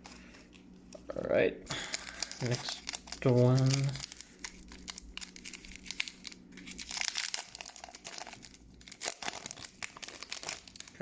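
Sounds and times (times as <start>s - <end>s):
foil wrapper crinkling and tearing: 1.7s - 11.0s.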